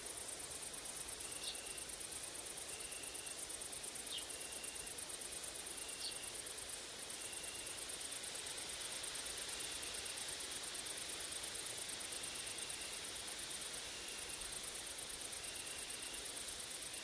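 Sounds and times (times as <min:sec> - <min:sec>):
insects stridulating buzz: 0:00.0 - 0:17.0.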